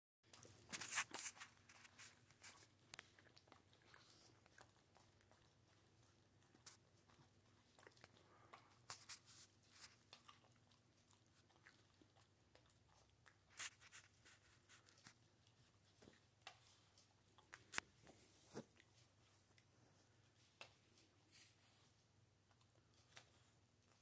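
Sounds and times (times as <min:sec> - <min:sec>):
dog licking and chewing paper plate: 0:00.3 - 0:24.0.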